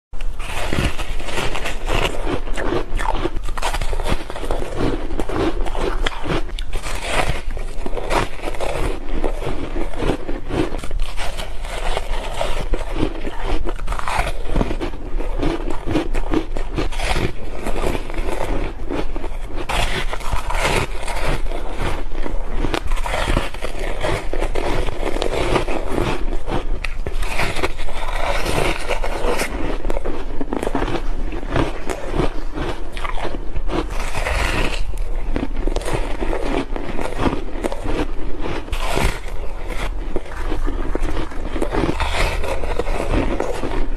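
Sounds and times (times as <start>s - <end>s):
ice crunching between teeth: 0.2s - 43.9s.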